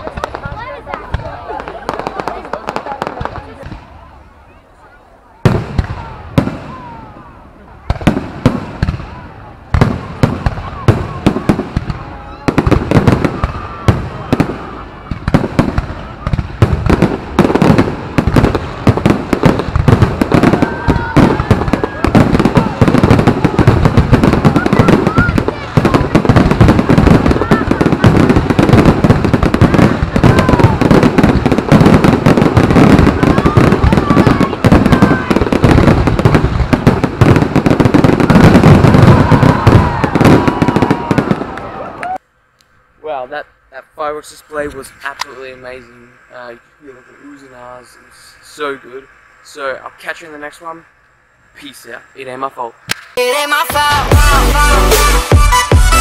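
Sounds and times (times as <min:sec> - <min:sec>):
fireworks bangs and crackles: 0:00.0 - 0:42.2, 0:44.0 - 0:56.0.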